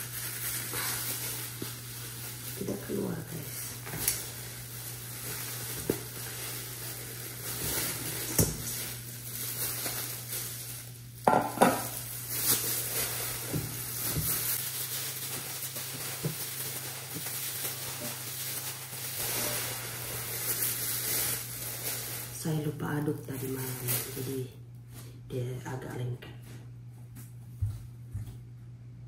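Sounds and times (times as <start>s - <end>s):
plastic gloves crinkling: 0.0s - 25.1s.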